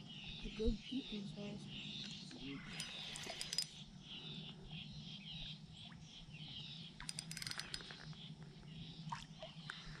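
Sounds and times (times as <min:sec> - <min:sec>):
faint bird chirping: 0:00.0 - 0:10.0.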